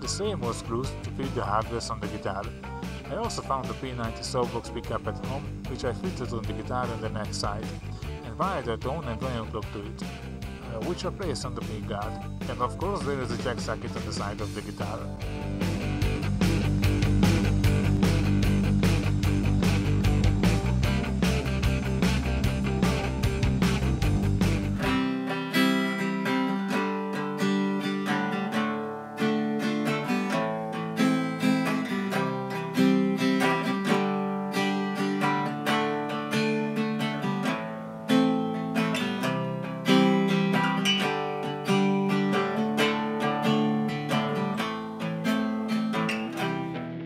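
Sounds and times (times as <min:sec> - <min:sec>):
acoustic guitar chords: 0:00.0 - 0:47.0.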